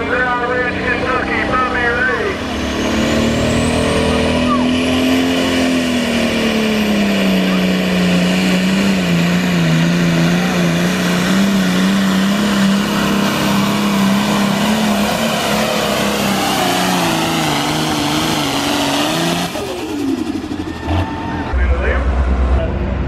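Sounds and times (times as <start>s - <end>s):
tractor diesel engine revving hard: 0.0s - 23.0s.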